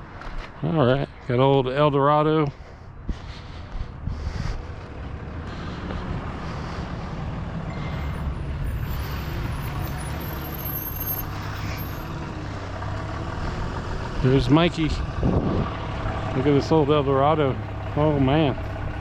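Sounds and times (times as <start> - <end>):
vehicle engine running at low revs: 3.2 - 19.0.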